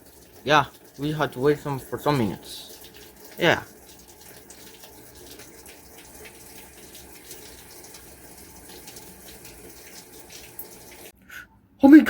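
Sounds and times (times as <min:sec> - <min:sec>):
water rushing into washing machine: 0:00.0 - 0:11.2.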